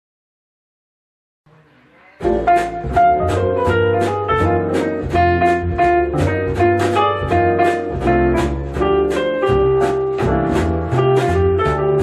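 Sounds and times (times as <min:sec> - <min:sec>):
jazzy guitar music over loudspeakers: 0:01.6 - 0:12.0.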